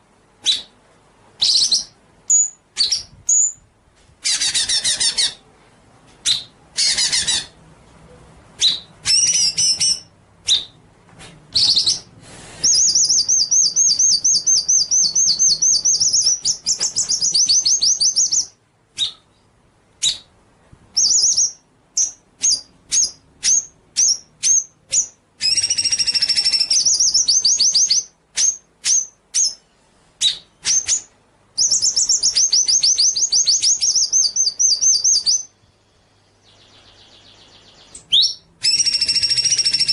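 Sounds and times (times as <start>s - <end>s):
songbird chirps: 0.4s - 10.9s, 11.5s - 39.9s.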